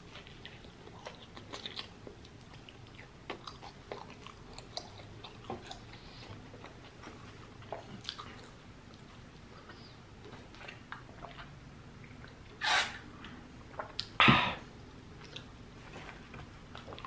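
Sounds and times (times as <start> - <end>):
person chewing food: 0.0 - 12.6, 15.2 - 17.0.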